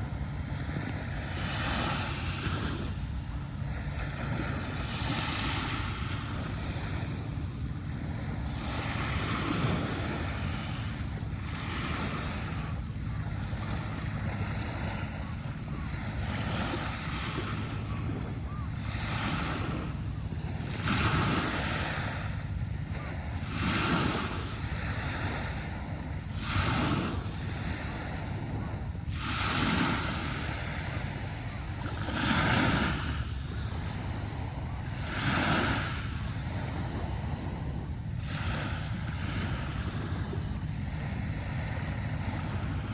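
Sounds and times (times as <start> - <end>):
small waves breaking on beach: 0.0 - 42.9.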